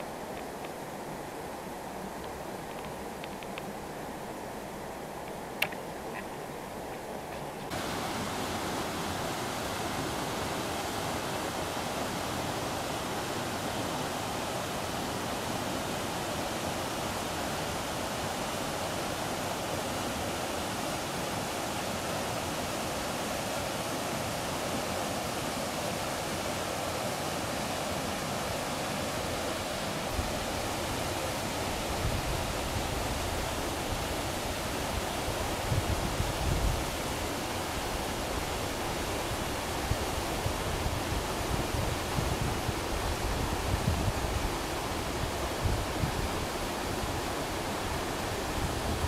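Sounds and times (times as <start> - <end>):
river water rushing over rocks: 0.0 - 49.0.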